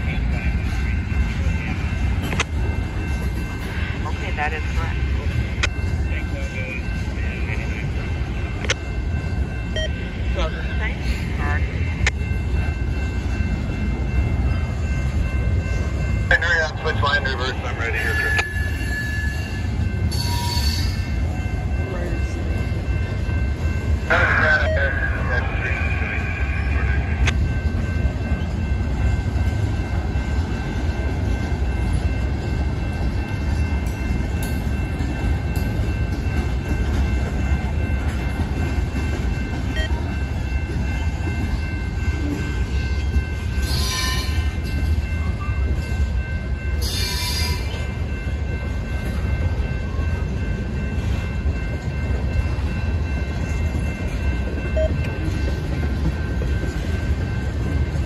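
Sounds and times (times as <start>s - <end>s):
crossing signal bell ringing: 0.0s - 58.0s
train wheels rumbling on rail: 0.0s - 58.0s.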